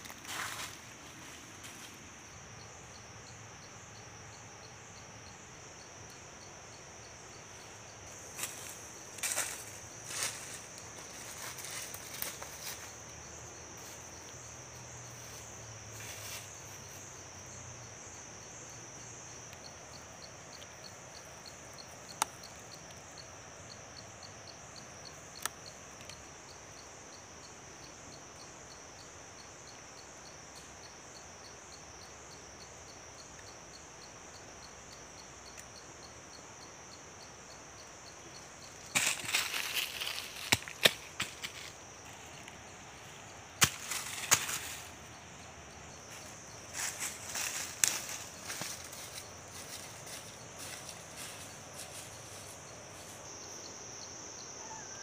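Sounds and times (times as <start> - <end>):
insect chorus: 0.0 - 55.0.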